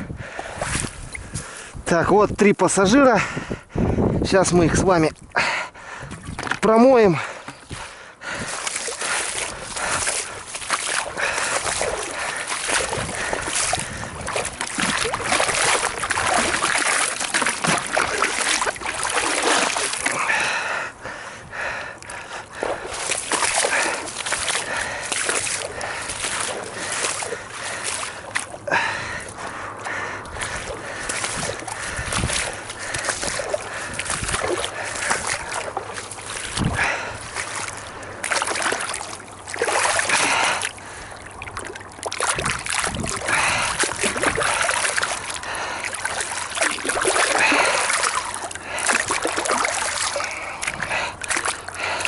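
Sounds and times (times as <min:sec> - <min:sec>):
water splashing and sloshing: 0:00.0 - 0:01.8, 0:04.5 - 0:52.0.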